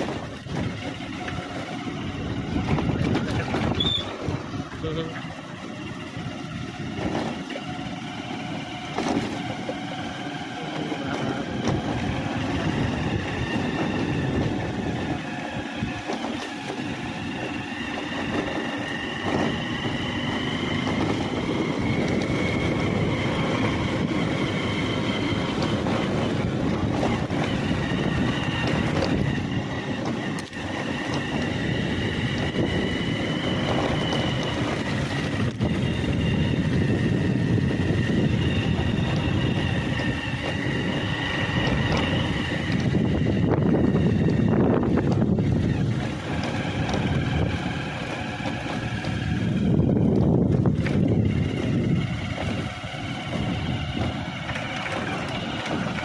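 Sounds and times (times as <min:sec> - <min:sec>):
faint high whining: 0:00.0 - 0:56.0
heavy machine rumbling: 0:00.0 - 0:56.0.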